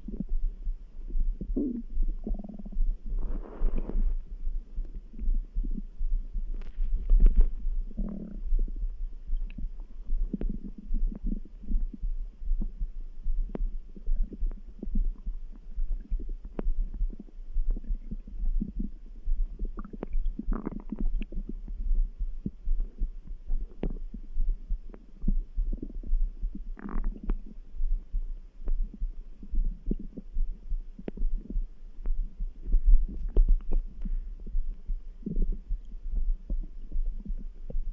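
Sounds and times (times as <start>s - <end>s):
low thudding heartbeat: 0.0s - 37.9s
stomach gurgling: 0.0s - 37.9s.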